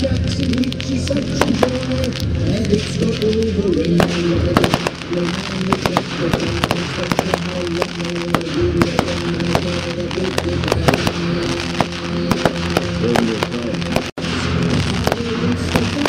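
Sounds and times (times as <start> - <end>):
fireworks bangs and crackles: 0.0 - 16.0
music: 0.0 - 16.0.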